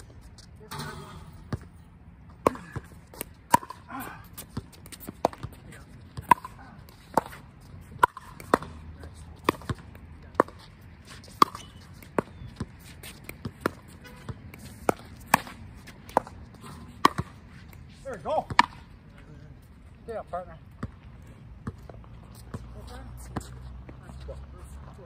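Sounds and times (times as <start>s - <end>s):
ball bouncing on court: 0.7s - 18.9s, 20.7s - 23.5s.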